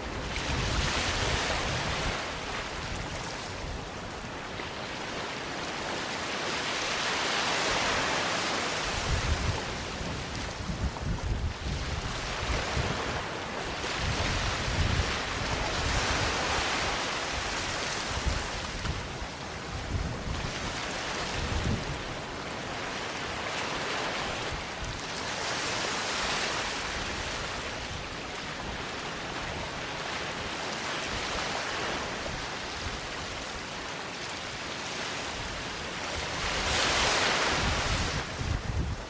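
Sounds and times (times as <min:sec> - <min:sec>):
ocean waves on beach: 0:00.0 - 0:39.0.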